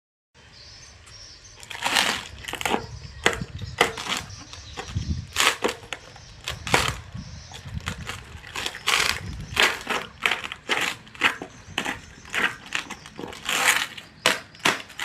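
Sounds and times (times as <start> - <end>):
plastic and cardboard crinkling: 1.6 - 15.0.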